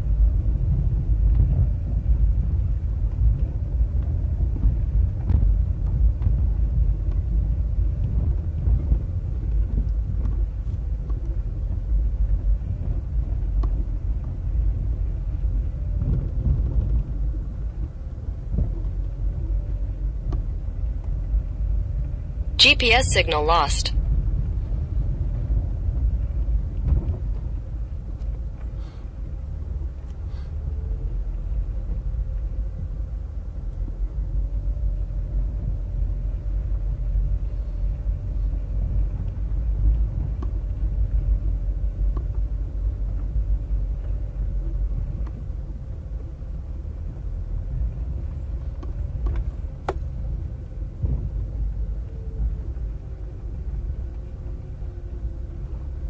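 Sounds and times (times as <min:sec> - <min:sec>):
car driving on dirt road: 0:00.0 - 0:22.7, 0:23.9 - 0:56.0.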